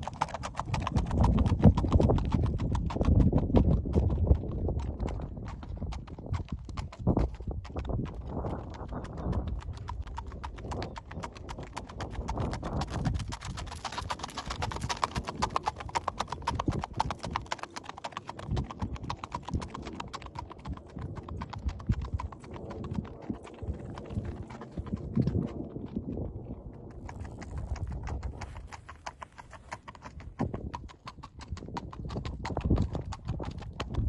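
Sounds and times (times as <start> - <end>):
horse hooves clip-clopping on road: 0.0 - 34.0.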